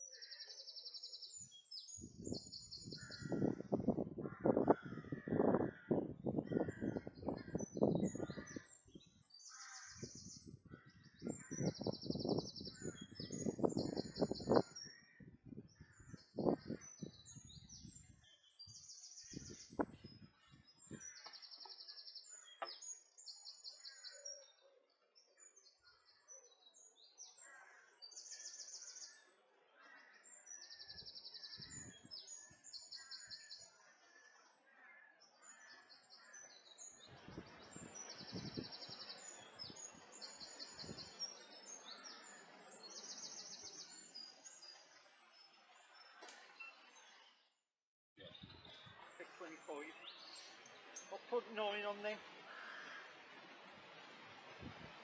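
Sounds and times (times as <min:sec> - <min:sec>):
songbirds chirping: 0:00.0 - 0:47.6, 0:48.2 - 0:55.0.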